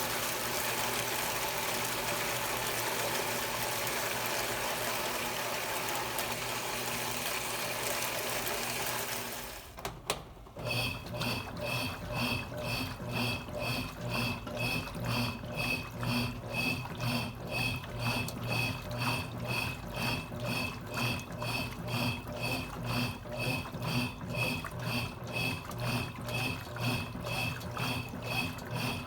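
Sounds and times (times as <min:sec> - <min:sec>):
washing machine motor pulsing: 0:00.0 - 0:29.0.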